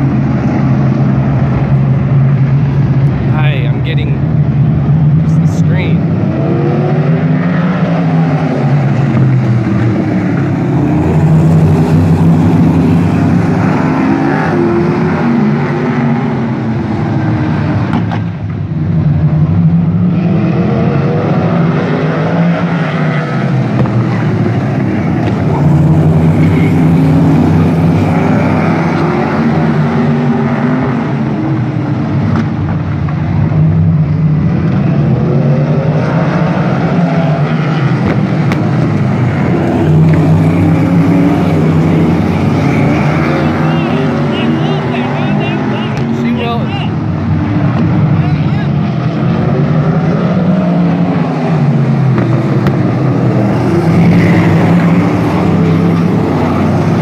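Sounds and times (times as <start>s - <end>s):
racing car engines passing: 0.0s - 57.0s.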